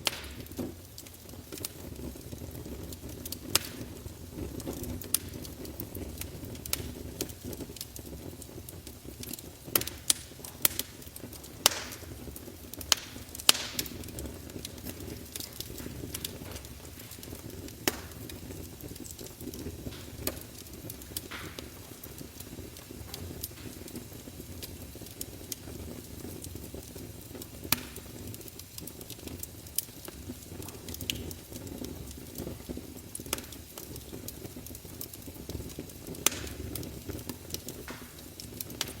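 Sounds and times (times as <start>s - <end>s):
fire crackles and pops: 0.0s - 39.0s
flames rumbling: 0.0s - 39.0s.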